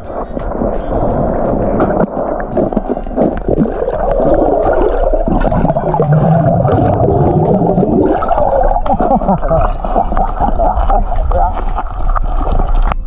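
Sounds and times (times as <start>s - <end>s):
muffled underwater river gurgling: 0.0s - 13.0s.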